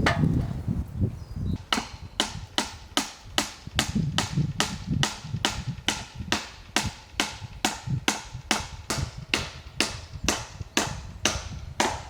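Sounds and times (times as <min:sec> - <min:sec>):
hammer striking nail into wood: 0:01.7 - 0:12.0.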